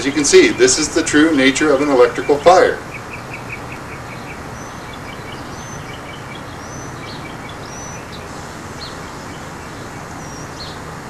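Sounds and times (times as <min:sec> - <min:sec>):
small birds chirping: 0:00.0 - 0:11.0
steady background hiss: 0:00.0 - 0:11.0.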